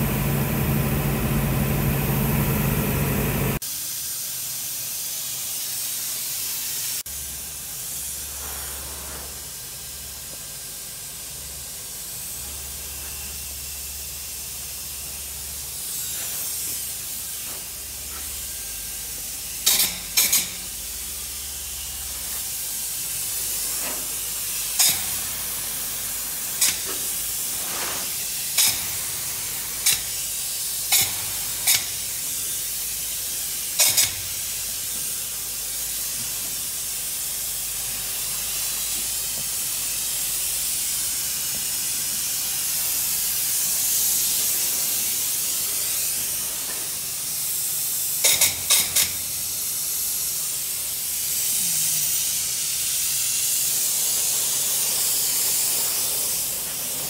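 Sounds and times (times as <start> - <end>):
spray gun air hiss: 0.0 - 57.0
short sharp spray bursts: 3.6 - 57.0.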